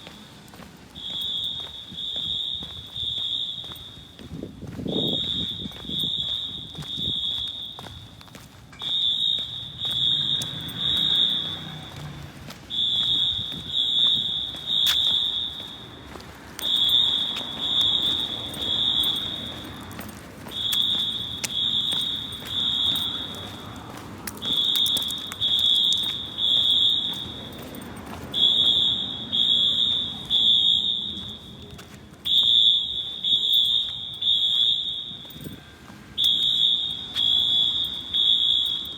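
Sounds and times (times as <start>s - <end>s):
fire alarm horn blasts: 0.0s - 38.9s.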